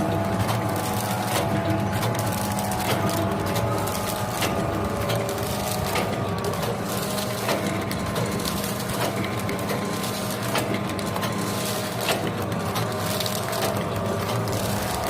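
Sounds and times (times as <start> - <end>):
packing machine humming: 0.0 - 15.0
sharp machine clicks: 0.0 - 15.0.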